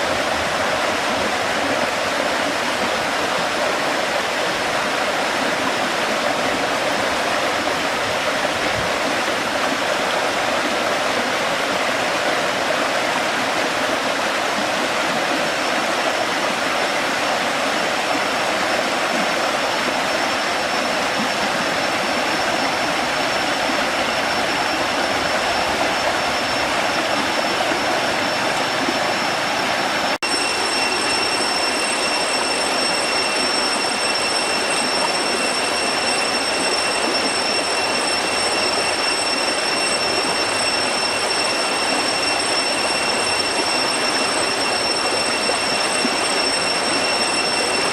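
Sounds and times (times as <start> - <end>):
high-pitched whine: 0.0 - 47.9
waterfall rushing: 0.0 - 47.9.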